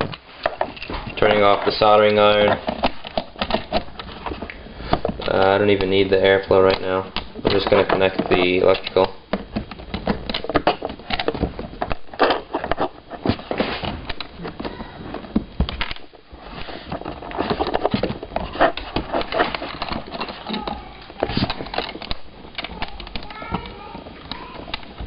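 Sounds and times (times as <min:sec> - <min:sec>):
soldering iron cord handling: 0:00.0 - 0:25.0.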